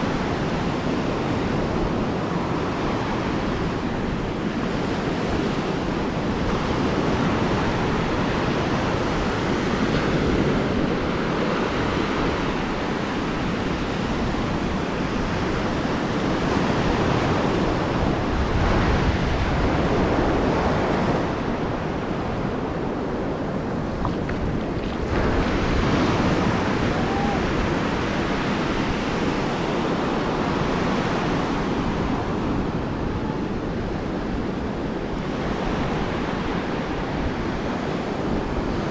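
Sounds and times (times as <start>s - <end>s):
ocean surf breaking on beach: 0.0s - 38.9s
wind rumbling on microphone: 0.0s - 38.9s.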